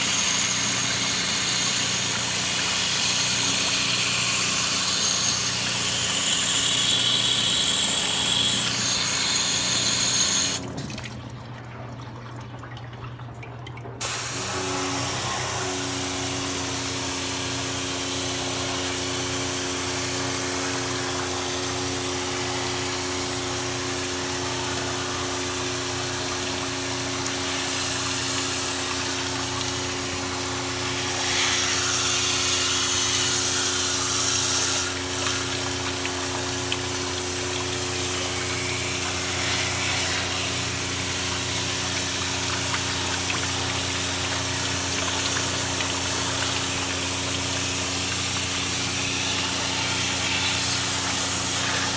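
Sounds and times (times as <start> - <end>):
water jet spraying: 0.0 - 10.6, 14.0 - 51.9
pressure washer motor humming: 0.0 - 10.8, 14.0 - 51.9.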